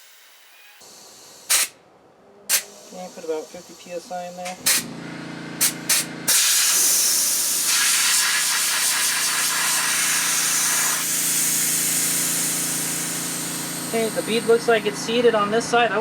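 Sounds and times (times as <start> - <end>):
compressed air hissing into tire: 0.0 - 1.8, 2.5 - 4.9, 5.6 - 14.6.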